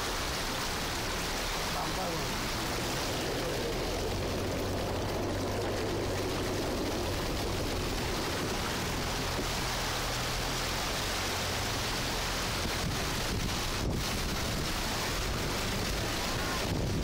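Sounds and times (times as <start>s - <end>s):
low engine hum: 0.0s - 17.0s
water rushing and churning: 0.0s - 17.0s.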